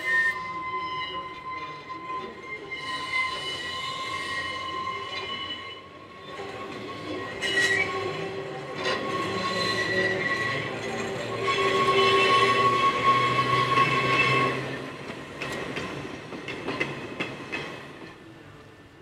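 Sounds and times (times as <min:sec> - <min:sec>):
tram wheels squealing on rails: 0:00.0 - 0:18.9.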